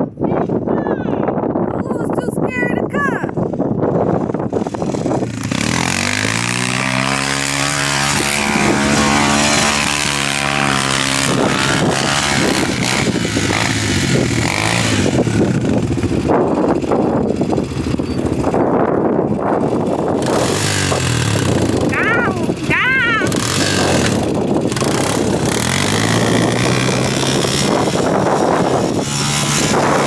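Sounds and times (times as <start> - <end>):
atv engine revving: 3.4 - 30.0.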